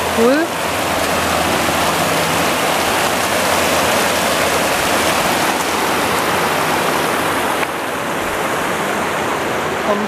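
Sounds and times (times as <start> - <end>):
stream rushing over boulders: 0.0 - 10.0.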